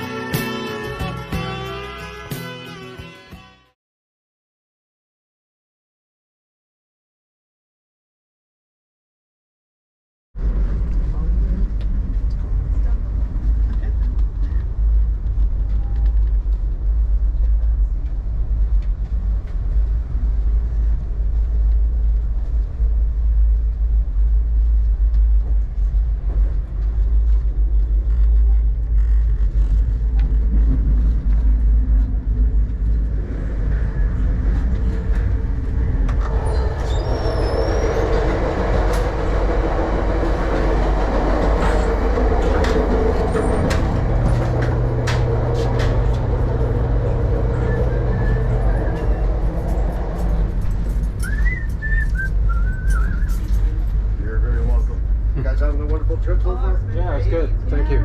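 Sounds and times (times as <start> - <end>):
train rumbling on rails: 10.4 - 58.0.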